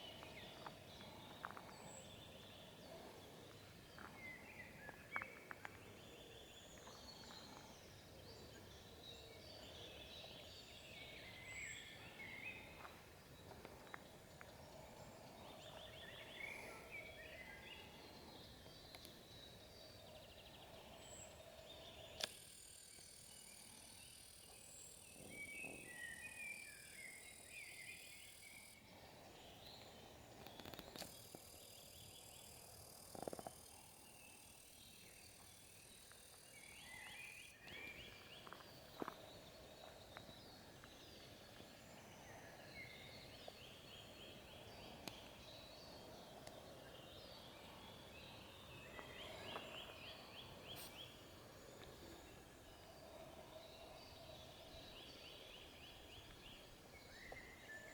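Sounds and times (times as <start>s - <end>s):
songbirds twittering: 0.0s - 57.9s.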